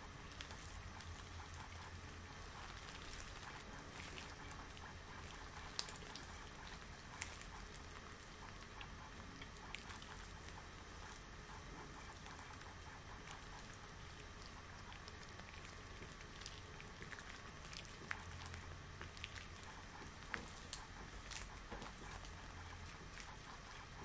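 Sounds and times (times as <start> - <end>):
latex gloves rubbing and crackling: 0.0 - 24.0.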